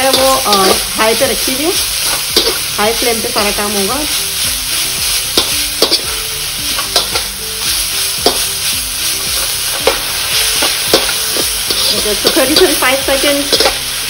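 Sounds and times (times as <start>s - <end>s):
metal spatula scraping wok: 0.0s - 14.0s
vegetables sizzling in oil: 0.0s - 14.0s.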